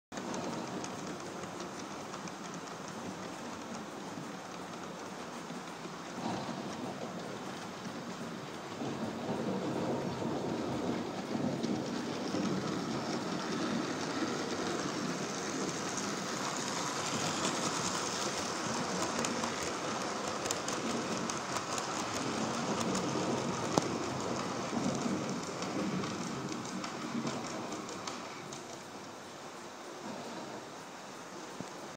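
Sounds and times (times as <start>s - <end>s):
rain hissing: 0.2s - 31.9s.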